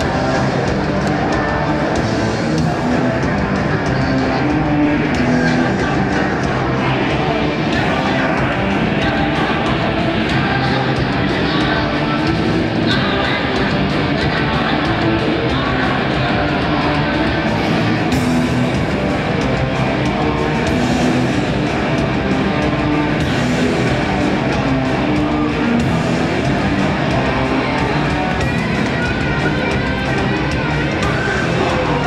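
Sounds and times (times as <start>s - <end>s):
drum kit: 0.0s - 32.0s
electric guitars: 0.0s - 32.0s.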